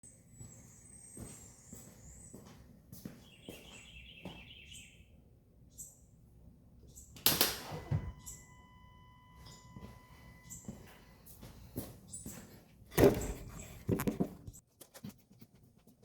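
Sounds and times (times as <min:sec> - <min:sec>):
birds chirping: 0:00.0 - 0:14.6.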